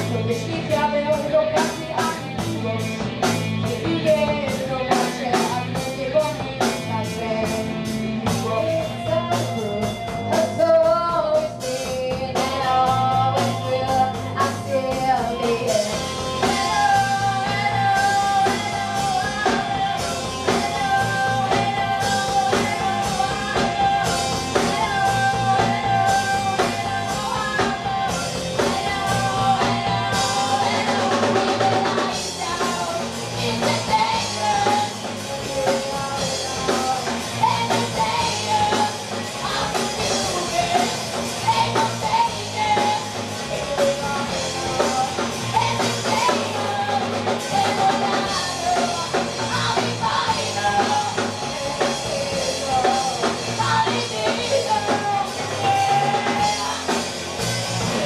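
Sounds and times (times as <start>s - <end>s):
bass guitar: 0.0s - 58.0s
drum kit beat: 0.0s - 58.0s
electric guitars: 0.0s - 58.0s
woman singing: 0.0s - 58.0s.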